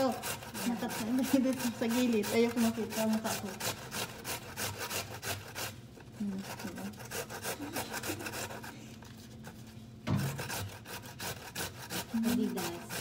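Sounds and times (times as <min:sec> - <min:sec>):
vegetable grated on metal grater: 0:00.0 - 0:13.0.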